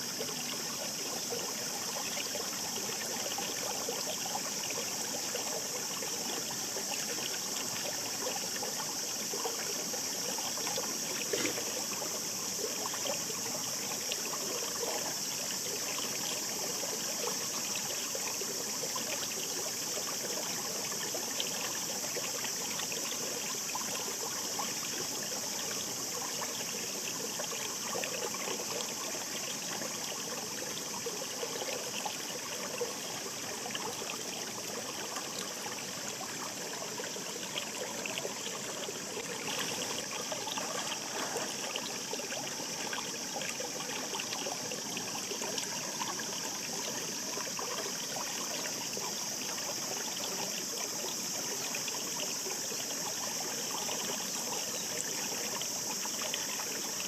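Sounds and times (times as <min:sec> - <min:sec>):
river babbling over stones: 0:00.0 - 0:57.0
water trickling and splashing: 0:00.0 - 0:57.0.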